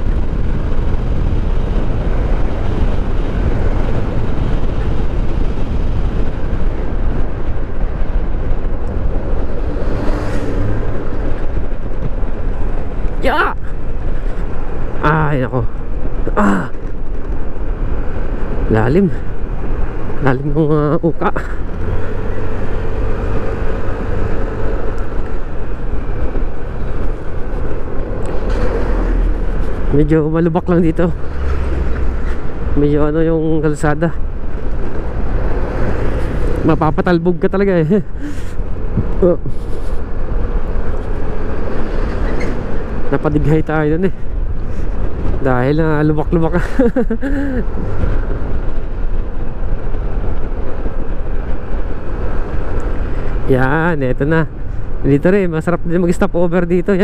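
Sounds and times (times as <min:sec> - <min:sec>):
scooter engine and riding noise: 0:00.0 - 0:57.0
wind rumble on microphone: 0:00.0 - 0:57.0.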